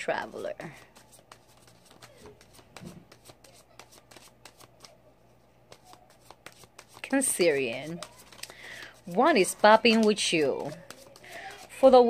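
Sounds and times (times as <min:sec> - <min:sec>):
cards being shuffled: 0:00.6 - 0:05.0, 0:05.7 - 0:12.0.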